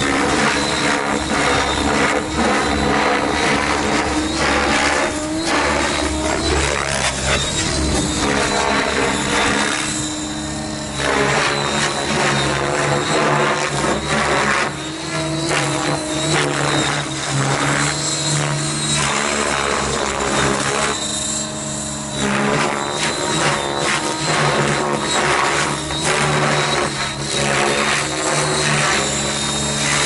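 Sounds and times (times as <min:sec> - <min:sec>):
high whine: 0:00.0 - 0:30.0
model helicopter rotor and motor: 0:00.0 - 0:30.0.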